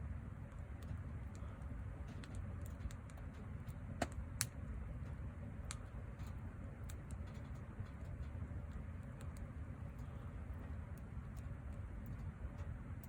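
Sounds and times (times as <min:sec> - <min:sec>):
fire low rumble: 0:00.0 - 0:13.0
wood fire crackling: 0:00.0 - 0:13.0.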